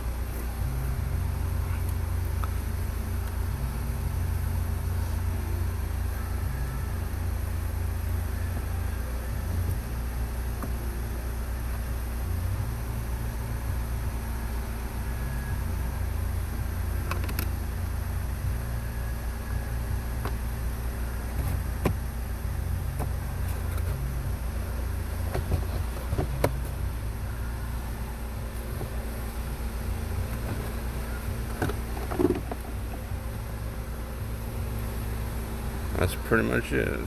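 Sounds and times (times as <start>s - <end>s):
steady low rumble: 0.0s - 37.0s.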